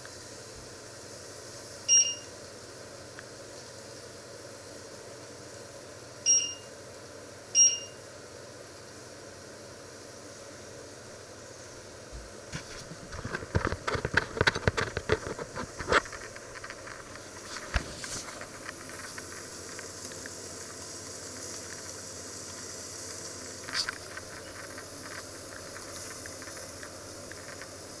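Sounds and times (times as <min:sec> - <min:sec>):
crackles and pops of frying: 0:00.0 - 0:28.0
food sizzling under a lid: 0:00.0 - 0:28.0.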